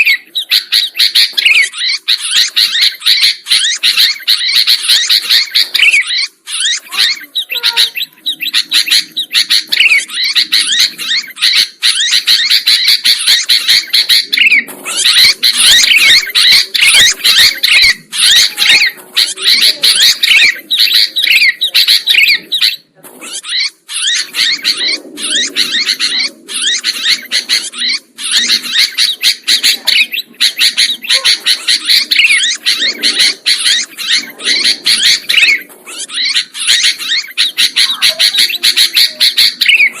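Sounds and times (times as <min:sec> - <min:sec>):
birds chattering: 0:00.0 - 0:40.0.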